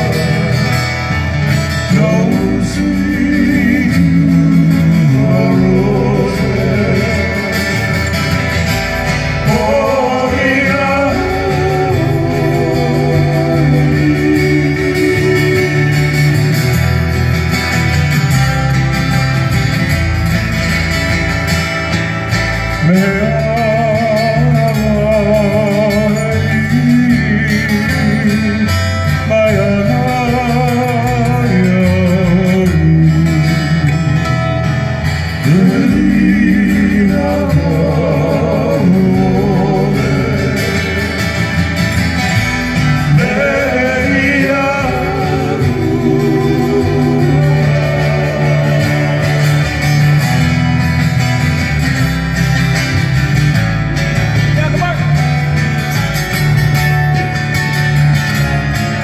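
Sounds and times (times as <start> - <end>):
man singing with vibrato: 0.0 - 18.6, 22.6 - 51.6
plucked acoustic guitar: 0.0 - 59.0
steady bass notes: 0.0 - 59.0.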